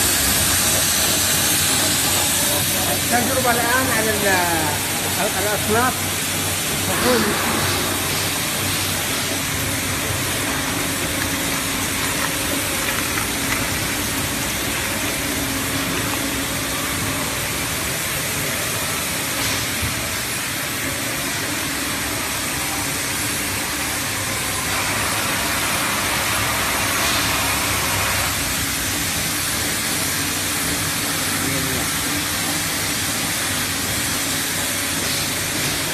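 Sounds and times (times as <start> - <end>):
machine hum: 0.0 - 35.1.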